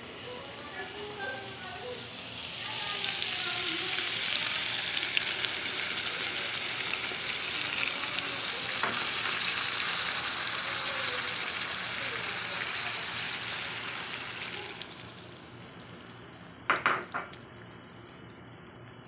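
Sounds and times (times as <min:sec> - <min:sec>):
meat sizzling in a pot: 0:00.0 - 0:16.6.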